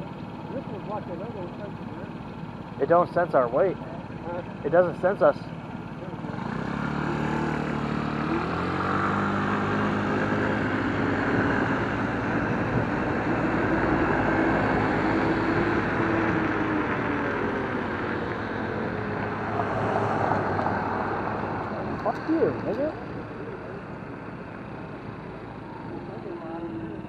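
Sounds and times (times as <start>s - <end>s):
wind and road noise: 1.8s - 27.0s
vehicle engine accelerating: 2.7s - 27.0s.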